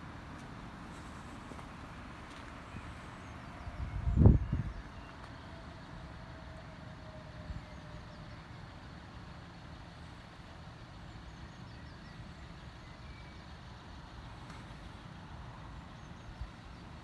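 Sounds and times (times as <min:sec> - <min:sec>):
vehicles idling: 0:00.0 - 0:17.0.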